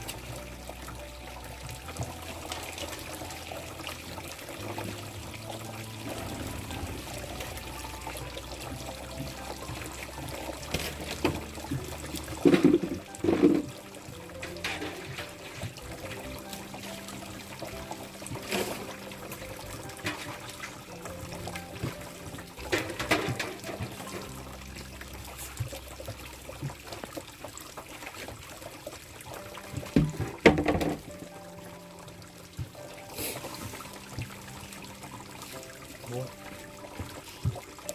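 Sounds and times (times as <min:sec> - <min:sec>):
liquid trickling and pouring: 0:00.0 - 0:37.9.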